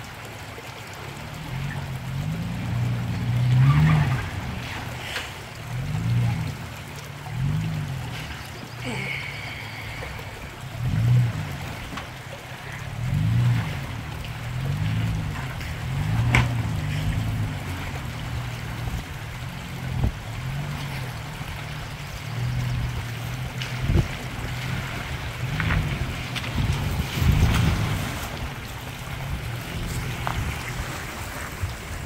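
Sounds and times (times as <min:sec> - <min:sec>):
engine crawling with revs rising: 0:00.0 - 0:32.0
faint trickle of creek water: 0:00.0 - 0:32.0.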